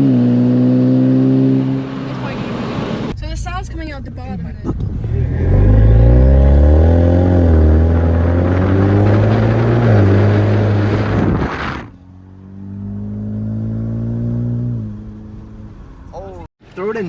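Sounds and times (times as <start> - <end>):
loud car exhaust: 0.0 - 16.2.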